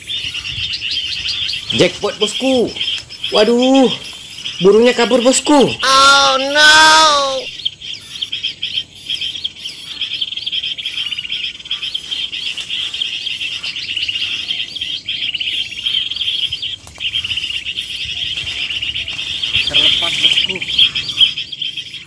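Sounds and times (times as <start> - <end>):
birds chirping chorus: 0.0 - 22.0.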